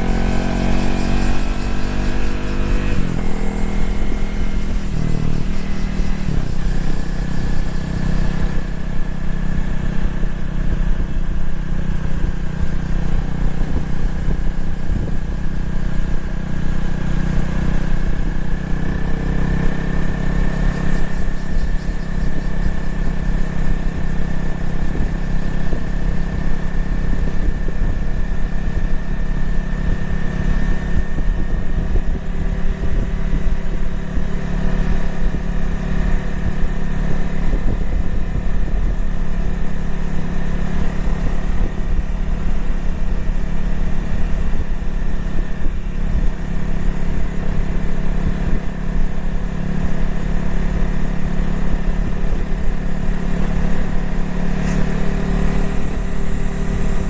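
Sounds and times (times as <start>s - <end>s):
motorcycle engine running steadily: 0.0s - 57.0s.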